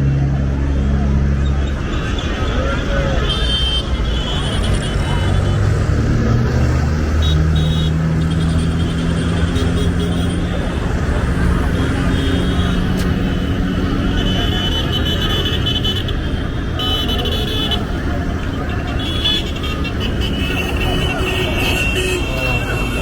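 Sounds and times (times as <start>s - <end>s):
people's voices: 0.0s - 23.0s
vehicle engines humming: 0.0s - 23.0s
car horns tooting: 1.6s - 23.0s.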